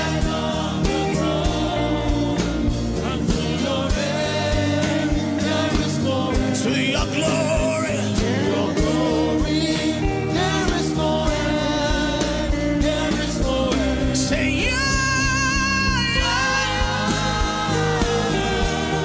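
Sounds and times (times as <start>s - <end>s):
sustained instrumental chords: 0.0s - 19.0s
person singing wordless melody: 0.9s - 19.0s.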